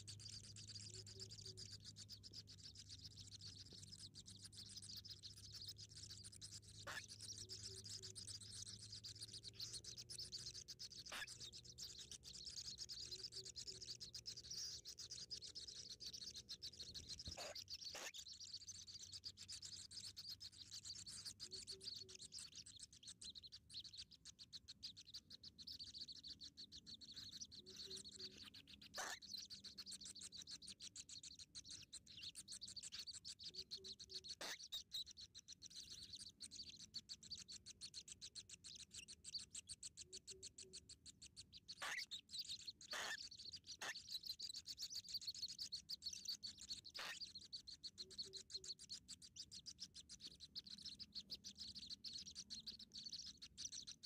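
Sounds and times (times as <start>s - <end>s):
small animals chirring: 0.0s - 54.0s.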